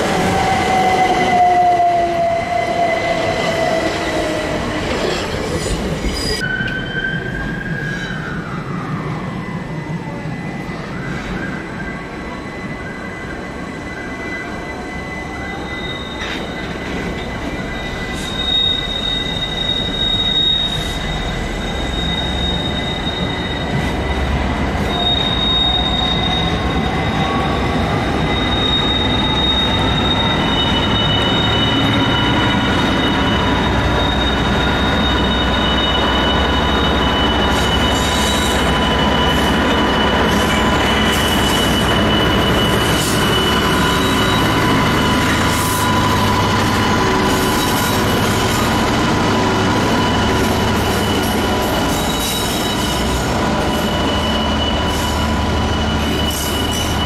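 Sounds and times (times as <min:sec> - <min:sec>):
wheels squealing against rails: 0:00.0 - 0:09.6, 0:10.3 - 0:57.0
diesel locomotive engine: 0:00.0 - 0:57.0.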